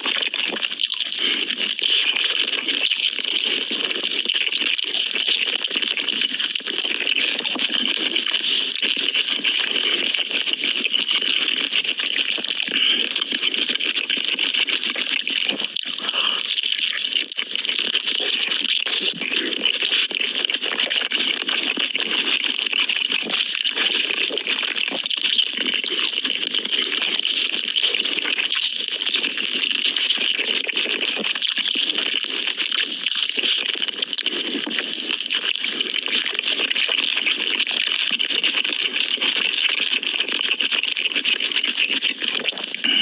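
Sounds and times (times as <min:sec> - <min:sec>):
crackly chewing and crunching: 0:00.0 - 0:43.0.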